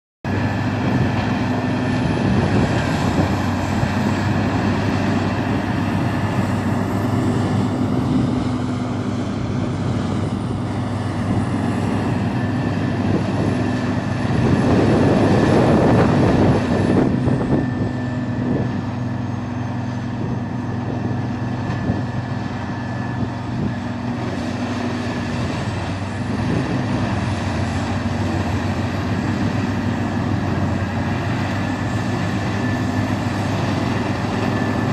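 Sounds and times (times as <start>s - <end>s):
wood chipper running: 0.3s - 34.9s.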